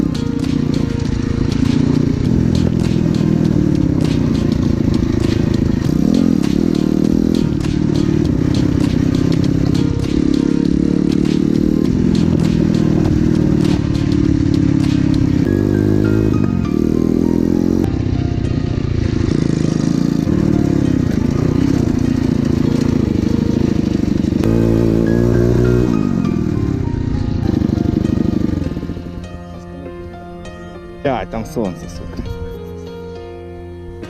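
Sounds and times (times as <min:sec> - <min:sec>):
vehicle engine revs shifting: 0:00.0 - 0:18.0, 0:18.6 - 0:29.2.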